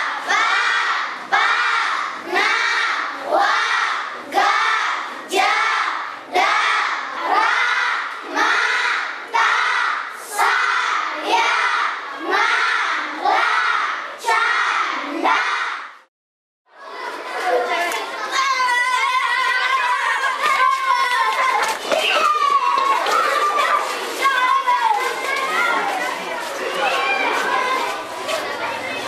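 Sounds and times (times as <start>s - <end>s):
children chanting in unison: 0.0s - 16.0s, 16.8s - 29.0s.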